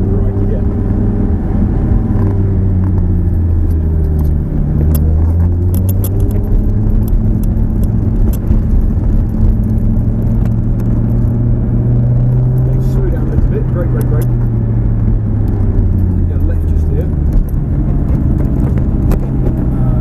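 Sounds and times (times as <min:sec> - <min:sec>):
car engine running in cabin: 0:00.0 - 0:20.0.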